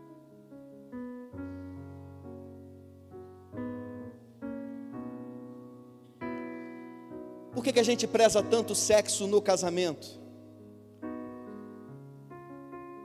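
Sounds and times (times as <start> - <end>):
soft piano chords on keyboard: 0.0 - 13.0.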